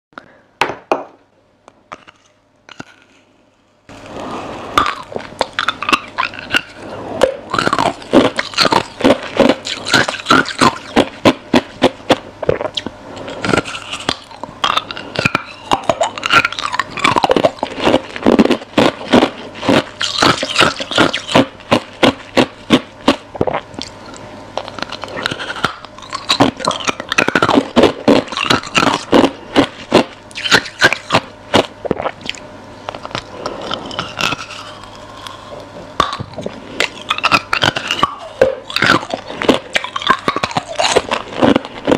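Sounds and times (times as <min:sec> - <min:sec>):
ice being chewed crunching: 0:01.9 - 0:03.2, 0:04.8 - 0:41.9.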